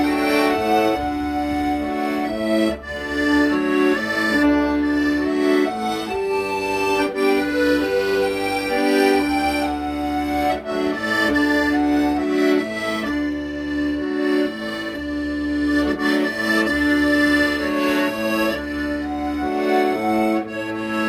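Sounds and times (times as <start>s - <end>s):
accordion melody: 0.0s - 21.0s
low bass notes: 0.0s - 21.0s.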